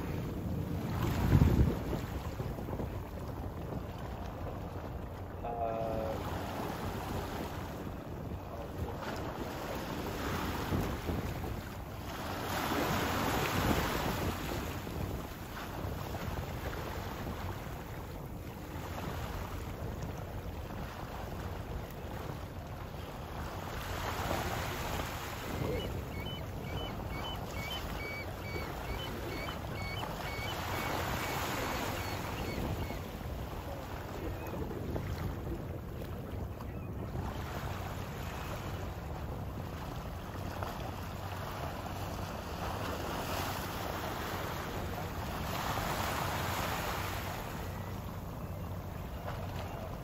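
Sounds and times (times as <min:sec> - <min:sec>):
water: 0:00.0 - 0:50.0
wind on microphone: 0:00.0 - 0:50.0.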